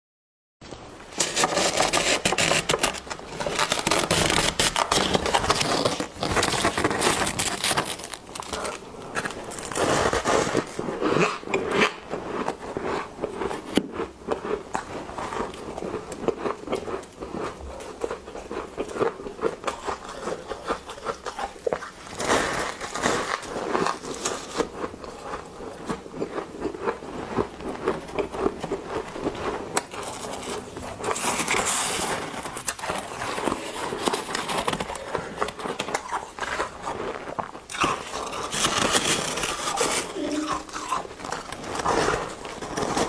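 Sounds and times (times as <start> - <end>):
frost crunching being chewed: 1.2 - 43.0.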